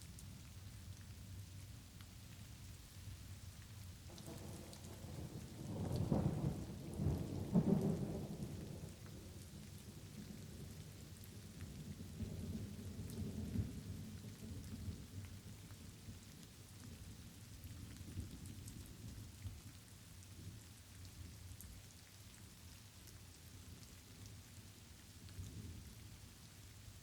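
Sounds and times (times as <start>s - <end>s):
light rain falling: 0.0s - 27.0s.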